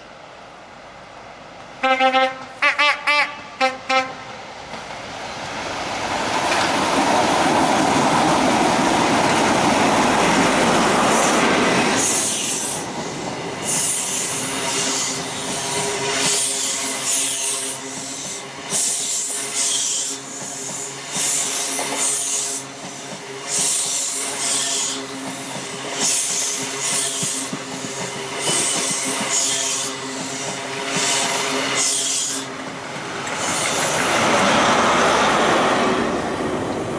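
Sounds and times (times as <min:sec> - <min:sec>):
train wheels clattering on rail: 0:04.6 - 0:36.9.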